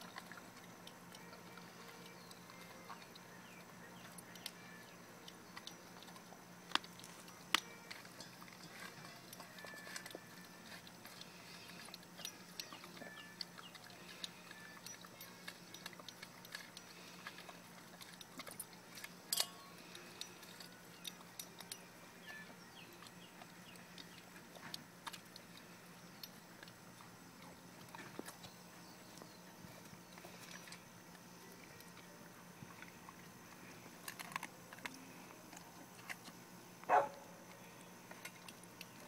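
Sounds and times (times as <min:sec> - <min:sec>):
animal chewing and crunching: 0:00.0 - 0:39.0.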